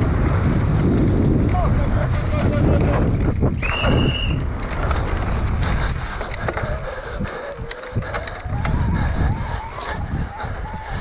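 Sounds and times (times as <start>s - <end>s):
tyre rumble and frame rattle: 0.0s - 11.0s
wind on microphone: 0.0s - 11.0s.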